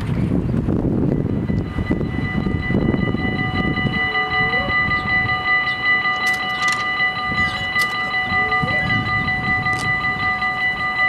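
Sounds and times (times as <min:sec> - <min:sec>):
level-crossing warning bells: 0:00.6 - 0:11.0.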